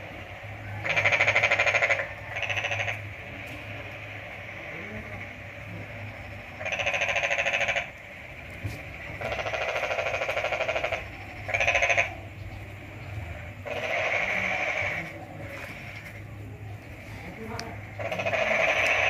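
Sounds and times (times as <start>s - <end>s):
low steady hum: 0.0s - 19.0s
trilling animal calls: 0.0s - 19.0s.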